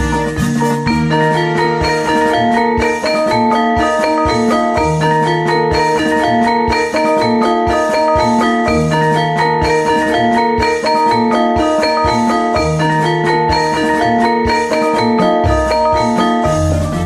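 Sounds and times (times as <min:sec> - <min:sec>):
tuned mallet percussion music: 0:00.0 - 0:17.0.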